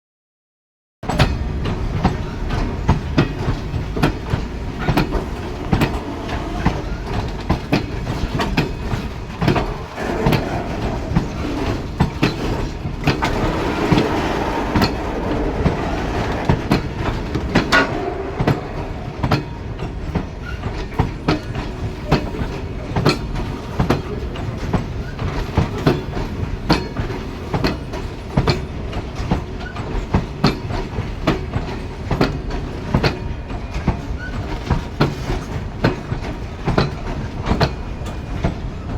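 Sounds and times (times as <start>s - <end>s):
train wagons rumbling: 1.0s - 38.9s
wheels clacking over rail joints: 1.0s - 38.9s.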